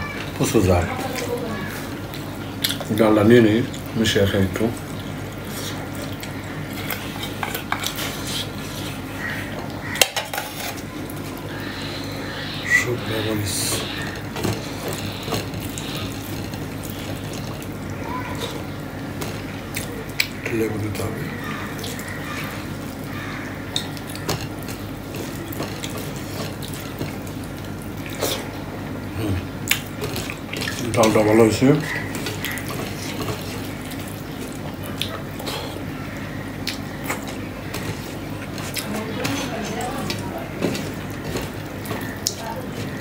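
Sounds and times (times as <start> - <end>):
person eating: 0.0 - 4.0, 4.6 - 43.0.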